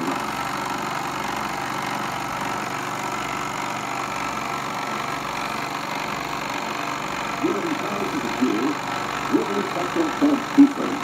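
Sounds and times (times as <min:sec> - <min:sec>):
film projector whirring: 0:00.0 - 0:11.0.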